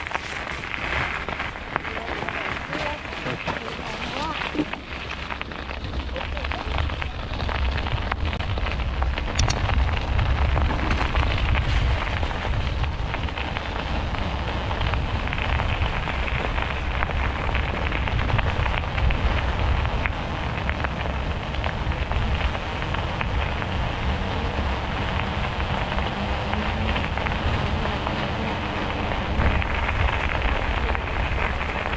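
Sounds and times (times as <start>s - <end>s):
bicycle tyres on rough surface: 0.0s - 31.9s
wind buffeting microphone: 0.0s - 31.9s.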